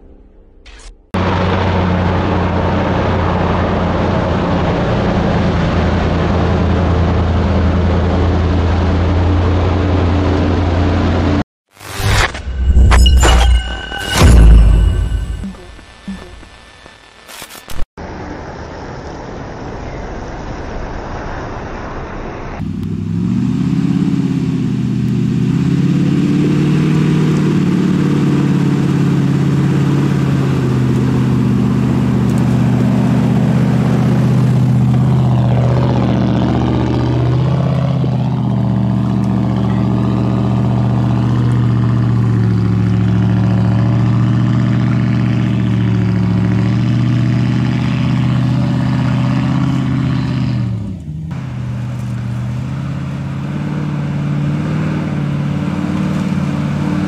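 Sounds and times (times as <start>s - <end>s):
engine running at low revs: 1.1s - 11.4s, 12.4s - 57.0s.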